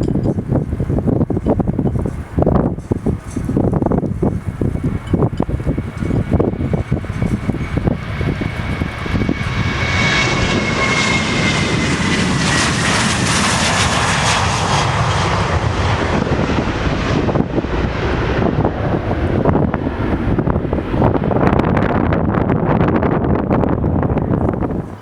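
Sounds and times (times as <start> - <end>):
jet aircraft passing: 0.0 - 25.0
wind rumble on microphone: 0.0 - 25.0.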